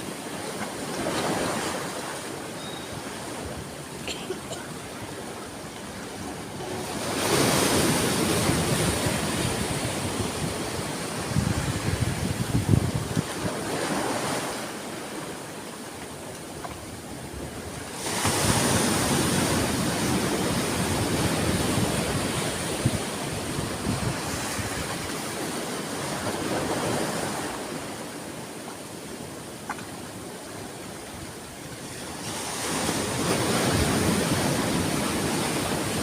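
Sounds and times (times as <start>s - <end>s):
sea waves breaking: 0.0s - 36.0s.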